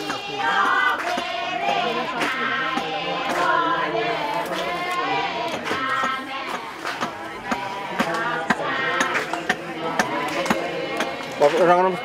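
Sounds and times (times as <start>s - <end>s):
group of voices chanting: 0.0s - 12.0s.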